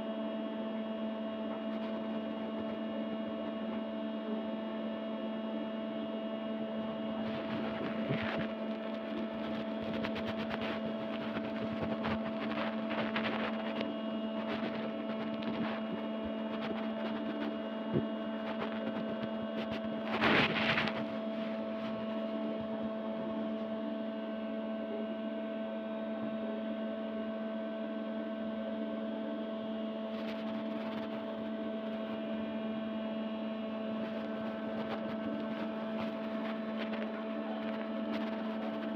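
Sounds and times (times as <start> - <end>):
steady multi-tone hum: 0.0 - 38.9.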